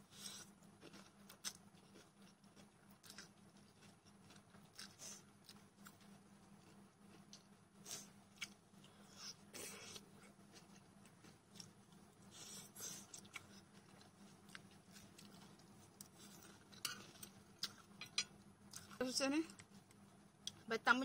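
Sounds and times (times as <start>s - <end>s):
chewing and slurping noodles: 0.1s - 17.9s.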